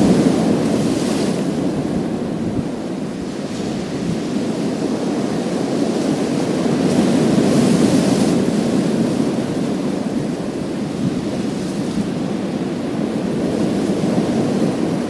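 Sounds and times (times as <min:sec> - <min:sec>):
waves on pebble beach: 0:00.0 - 0:15.0.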